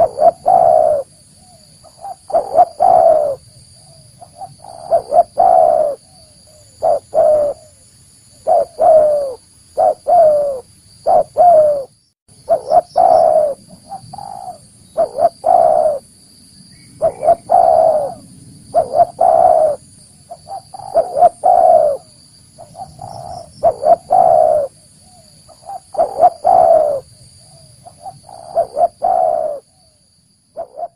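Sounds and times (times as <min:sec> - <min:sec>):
dove cooing: 0:00.0 - 0:16.1, 0:17.0 - 0:30.0, 0:30.6 - 0:30.9.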